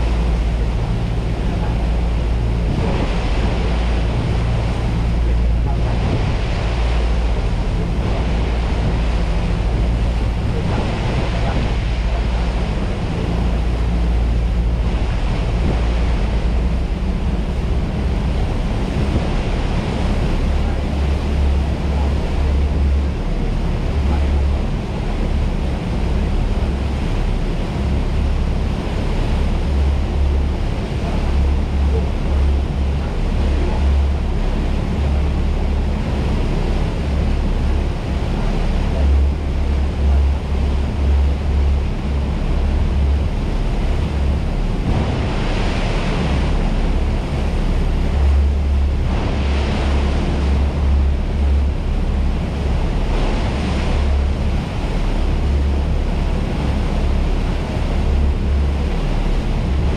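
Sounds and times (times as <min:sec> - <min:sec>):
rush of jet wake: 0:00.0 - 0:59.9
wind buffeting microphone: 0:00.0 - 0:59.9.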